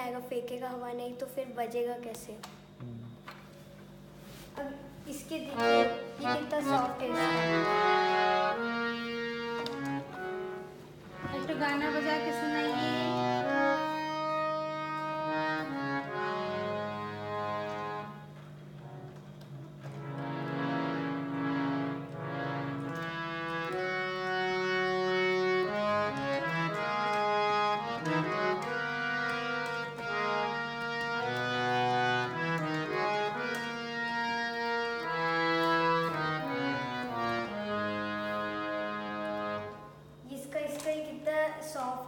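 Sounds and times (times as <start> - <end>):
harmonium melody: 4.2 - 40.9.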